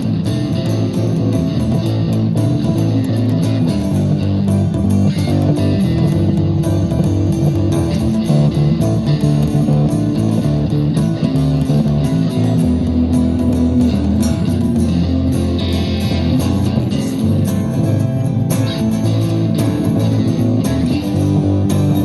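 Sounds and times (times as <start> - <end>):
bass guitar: 0.0 - 22.0
electric guitar: 0.0 - 22.0
steady beat: 0.0 - 22.0.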